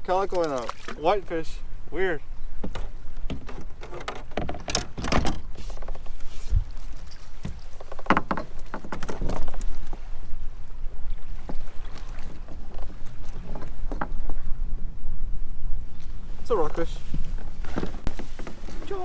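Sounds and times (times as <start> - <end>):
knocks and clatter aboard kayak: 0.0 - 1.5, 2.5 - 10.2, 10.9 - 15.0, 16.0 - 19.0
wind rumble on microphone: 1.5 - 19.0.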